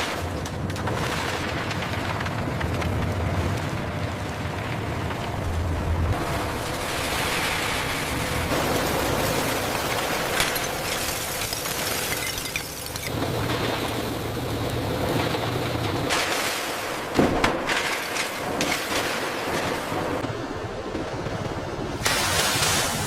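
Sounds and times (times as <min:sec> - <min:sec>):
heavy machinery running: 0:00.4 - 0:23.0.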